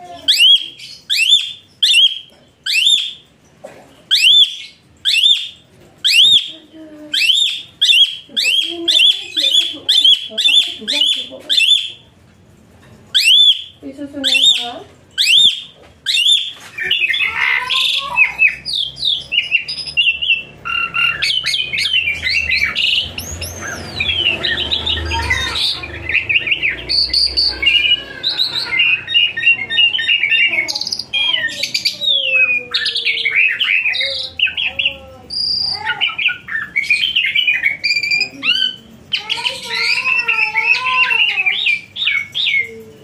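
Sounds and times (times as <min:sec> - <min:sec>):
bird singing: 0:00.0 - 0:43.0.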